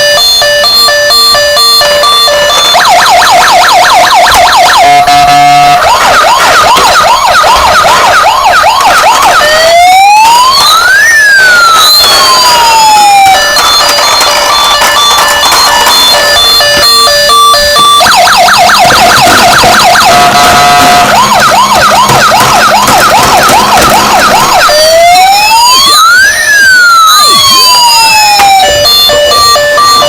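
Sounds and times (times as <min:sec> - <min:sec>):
electronic toy siren: 0:00.0 - 0:30.0.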